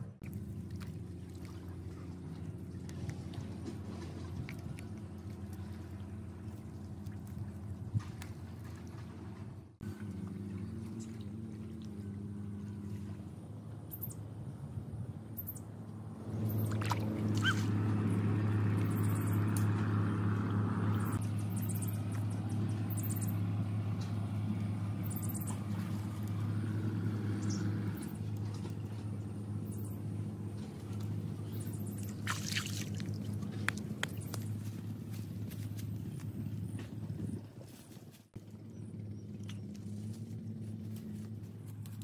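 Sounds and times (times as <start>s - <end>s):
engine humming: 0.0s - 42.0s.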